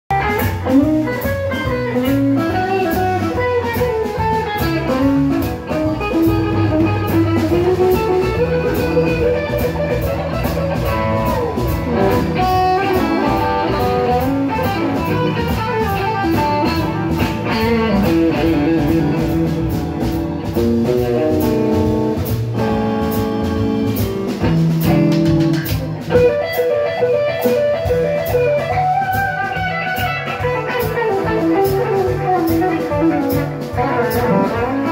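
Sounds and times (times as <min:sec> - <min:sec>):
drum kit with cymbals: 0:00.1 - 0:34.9
electric guitar playing lead lines: 0:00.1 - 0:34.9.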